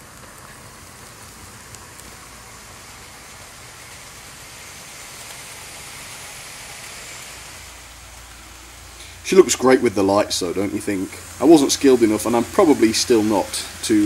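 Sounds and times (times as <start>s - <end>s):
model train wheels on rails: 0.0s - 14.0s.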